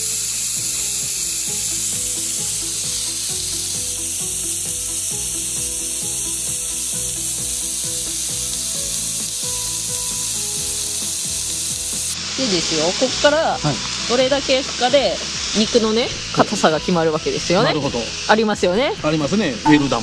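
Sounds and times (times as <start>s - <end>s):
background music with steady beat: 0.0s - 20.0s
steak sizzling: 0.0s - 20.0s.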